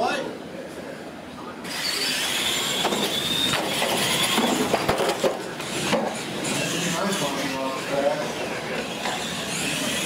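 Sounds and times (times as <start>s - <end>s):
high motor whine: 1.6s - 10.0s
toy truck motors and tyres: 1.6s - 10.0s.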